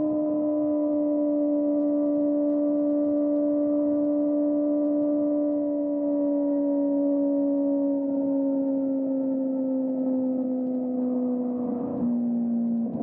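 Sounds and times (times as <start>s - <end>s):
motorcycle engine drone: 0.0s - 13.0s.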